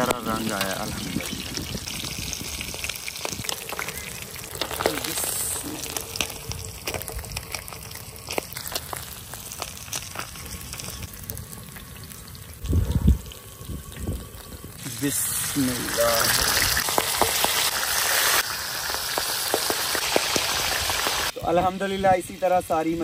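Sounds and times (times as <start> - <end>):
fish sizzling in oil: 0.0 - 23.0.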